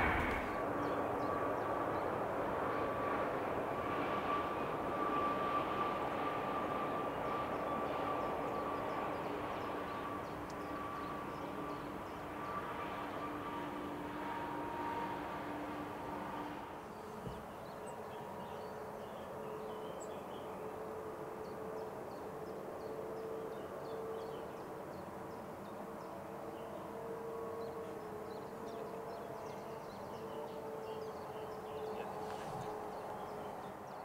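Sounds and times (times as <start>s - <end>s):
distant jet engine hum: 0.0s - 19.4s, 26.0s - 34.0s.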